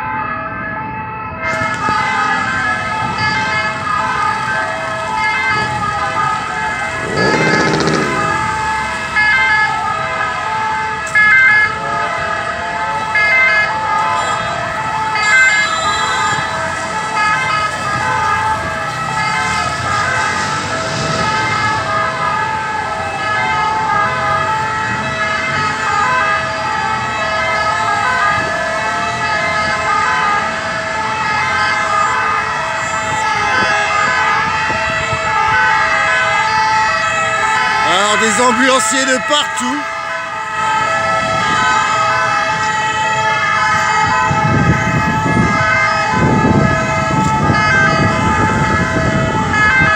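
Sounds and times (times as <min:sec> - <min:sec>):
ambulance sirens: 0:00.0 - 0:49.9
traffic noise: 0:00.0 - 0:49.9.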